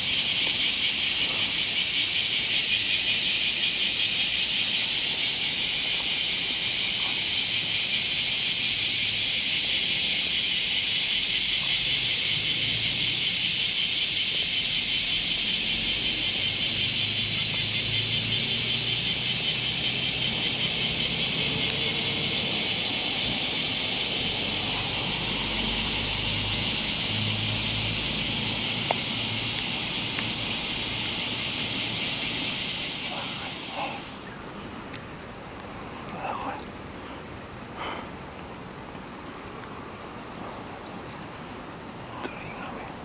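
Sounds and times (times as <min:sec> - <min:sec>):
insects buzzing pulsing chorus: 0:00.0 - 0:43.0.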